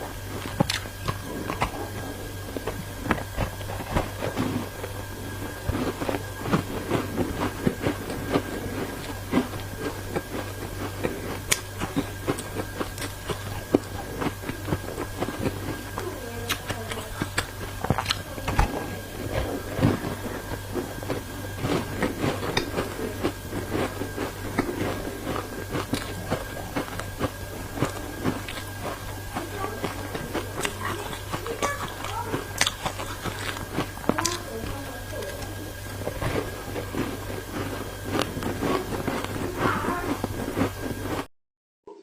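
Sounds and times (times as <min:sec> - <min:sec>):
ice being chewed: 0:00.0 - 0:41.3
low hum: 0:00.0 - 0:41.3.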